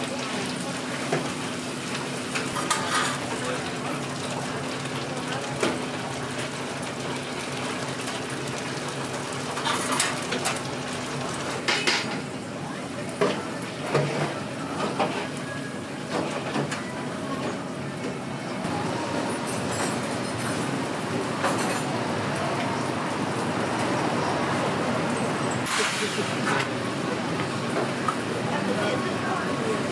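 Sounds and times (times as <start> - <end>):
food deep-frying in oil: 0.0 - 29.9.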